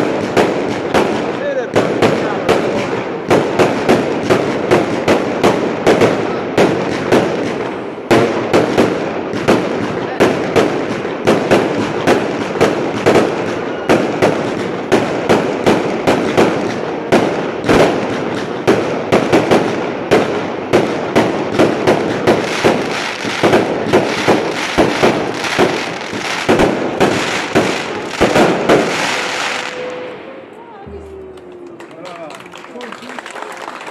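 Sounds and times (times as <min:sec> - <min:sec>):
fireworks crackling: 0:00.0 - 0:33.9.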